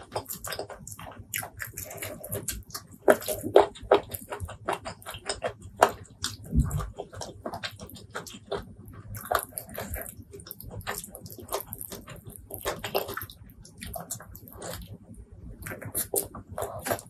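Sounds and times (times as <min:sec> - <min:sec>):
biting and chewing: 0:00.0 - 0:17.0
wet eating sounds: 0:00.0 - 0:17.0.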